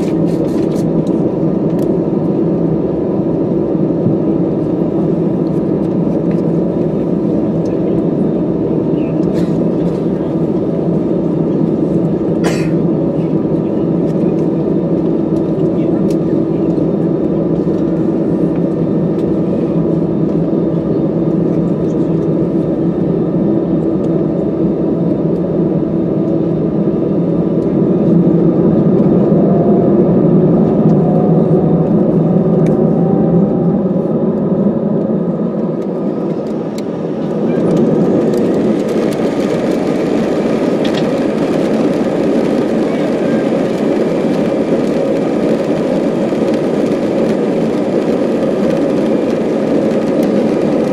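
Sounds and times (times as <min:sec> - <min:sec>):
jet engines heard from cabin: 0:00.0 - 0:50.9.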